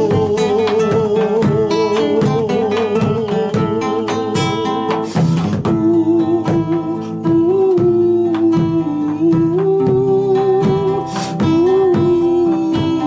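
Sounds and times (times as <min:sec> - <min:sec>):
drum strokes: 0:00.0 - 0:13.0
plucked strings: 0:00.0 - 0:13.0.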